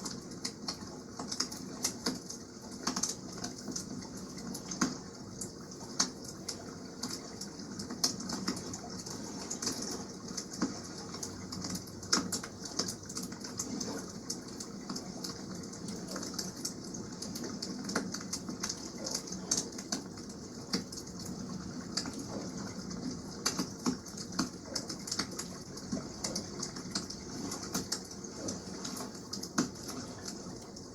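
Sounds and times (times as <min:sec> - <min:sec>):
water washing: 0:00.0 - 0:30.9.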